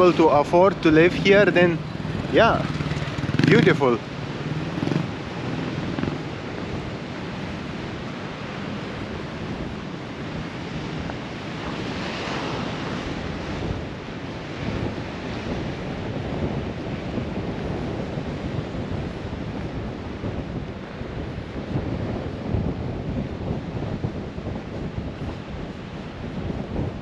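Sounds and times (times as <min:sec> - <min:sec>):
waves washing onto a beach: 0:00.0 - 0:27.0
wind noise on microphone: 0:00.0 - 0:27.0.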